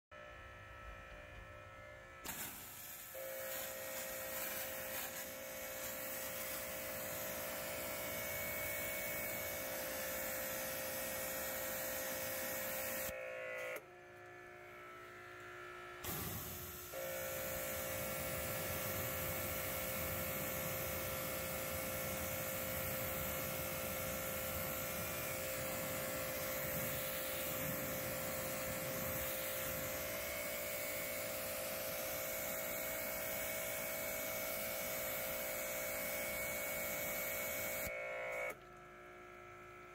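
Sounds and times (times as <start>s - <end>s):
pressure washer motor hum: 2.2s - 14.3s, 15.4s - 38.6s
water spray hissing on car: 2.3s - 13.1s, 16.0s - 37.9s.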